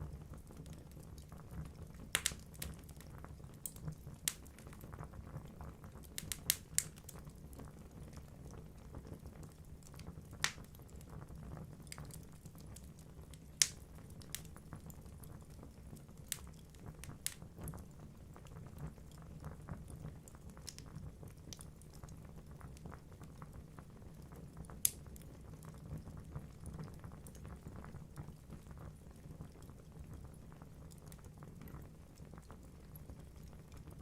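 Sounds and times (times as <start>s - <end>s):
logs crackling and popping: 0.2s - 34.0s.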